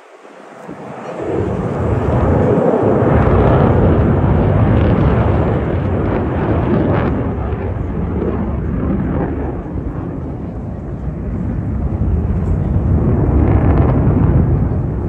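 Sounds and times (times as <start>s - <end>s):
jet aircraft roaring past: 0.0s - 15.0s.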